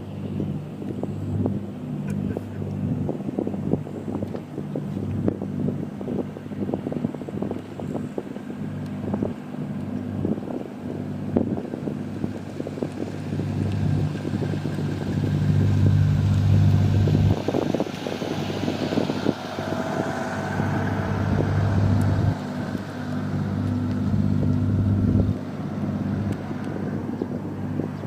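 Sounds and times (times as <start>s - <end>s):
boat diesel engine running: 0.0s - 28.0s
wind buffeting microphone: 0.0s - 28.0s.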